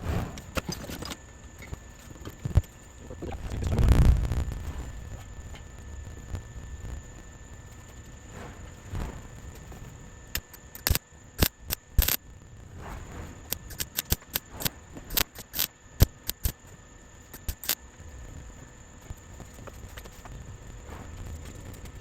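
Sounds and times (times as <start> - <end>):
welder crackling bursts: 0.0 - 18.4.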